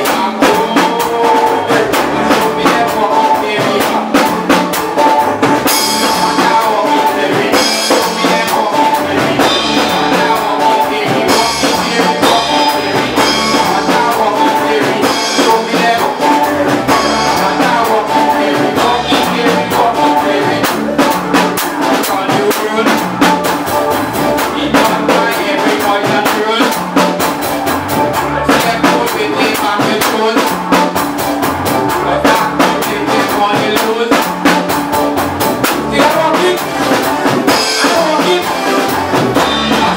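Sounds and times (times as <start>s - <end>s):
drum kit: 0.0s - 39.9s
guitar: 0.0s - 39.9s
live band playing: 0.0s - 39.9s.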